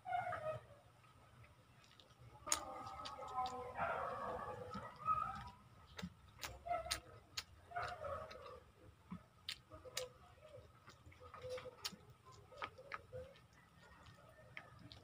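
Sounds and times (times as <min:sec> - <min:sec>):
wet chewing mouth clicks: 0:01.4 - 0:15.0.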